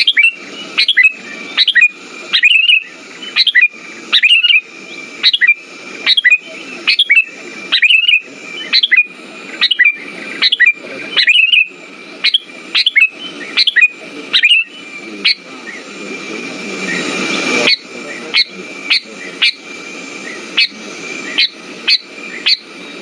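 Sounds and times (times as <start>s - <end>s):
bulbul calling: 0.0s - 23.0s.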